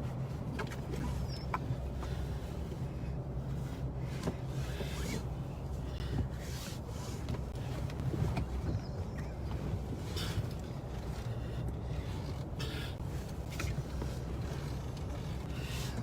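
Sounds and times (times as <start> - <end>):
seatbelt webbing rustling: 0.0 - 16.0
vehicle low hum: 0.0 - 16.0.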